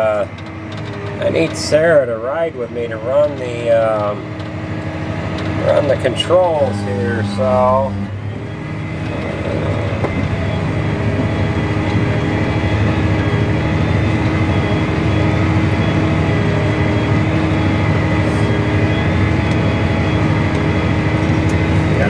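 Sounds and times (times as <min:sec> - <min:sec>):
high whine: 0:00.0 - 0:22.0
tractor diesel engine under load: 0:00.0 - 0:22.0.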